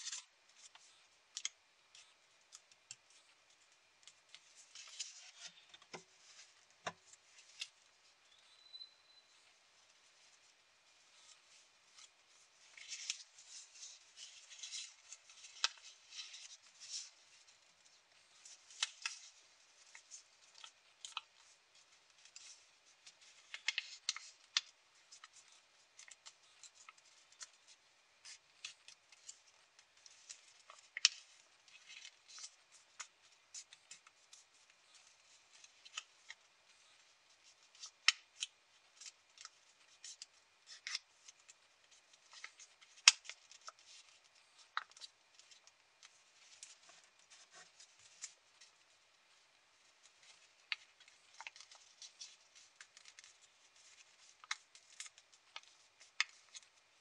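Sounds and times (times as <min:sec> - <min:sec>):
paper rustling and crackling: 0:00.0 - 0:08.3, 0:09.3 - 0:57.0
sharp paper crackles: 0:10.0 - 0:57.0.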